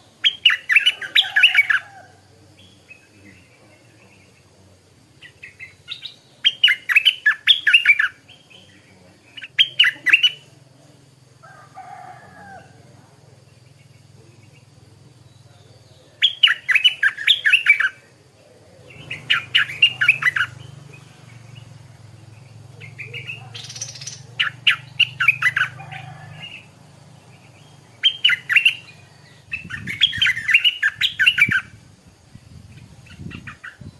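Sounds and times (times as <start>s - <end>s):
bird singing chattery notes: 0.0s - 33.9s
faint low hum: 0.0s - 33.9s.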